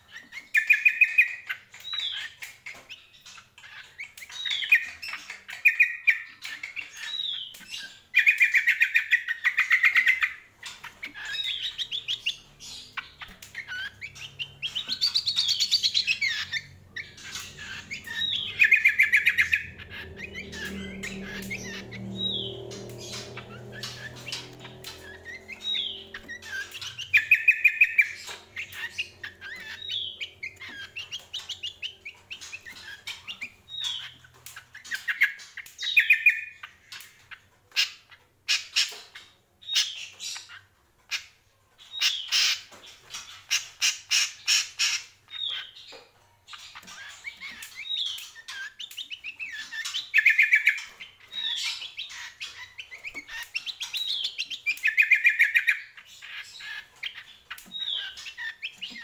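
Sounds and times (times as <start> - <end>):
songbird whistling and trilling: 0.0 - 40.6, 43.2 - 59.0.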